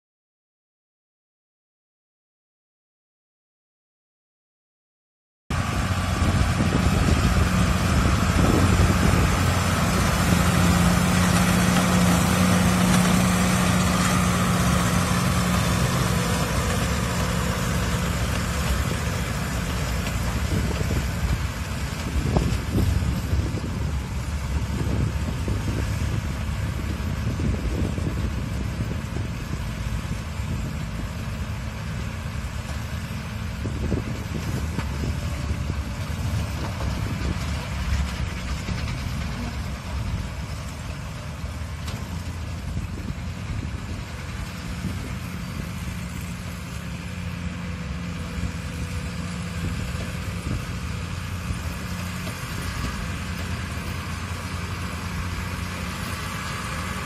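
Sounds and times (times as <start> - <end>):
tractor diesel engine running: 5.5 - 57.0.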